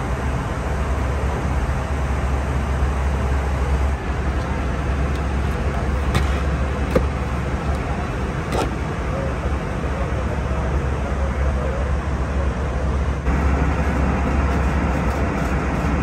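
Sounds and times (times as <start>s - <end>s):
airplane cabin airflow and engines: 0.0s - 16.0s.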